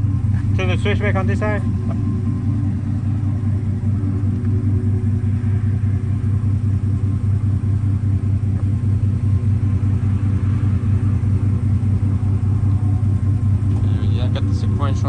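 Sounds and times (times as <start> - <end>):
pickup engine idling: 0.0 - 15.0.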